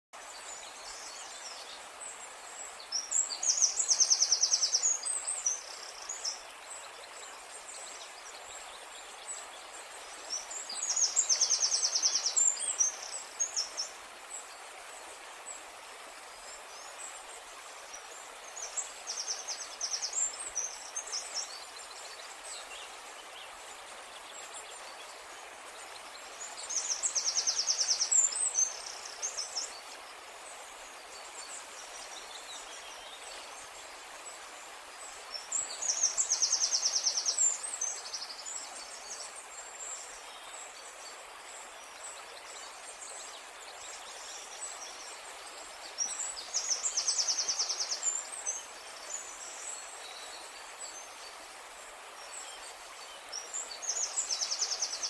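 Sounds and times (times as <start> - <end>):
steady outdoor hiss: 0.1 - 55.0.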